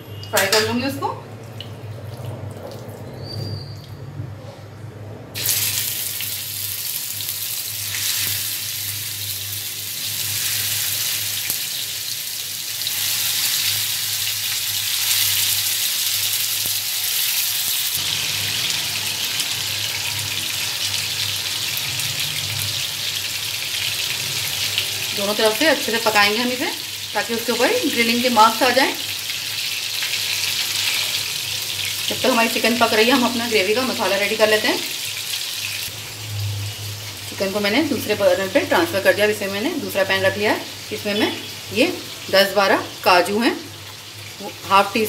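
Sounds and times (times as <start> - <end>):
chicken sizzling in hot oil: 5.4 - 45.0.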